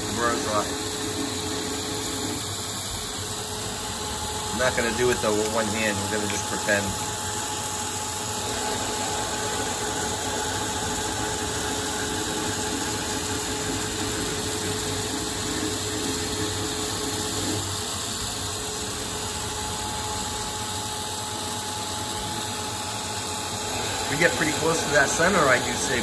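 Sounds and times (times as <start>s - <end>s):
coolant mist sprayer hissing: 0.0s - 20.5s, 22.0s - 26.0s
lathe cutting a thread: 0.0s - 26.0s
machine hum: 0.0s - 26.0s.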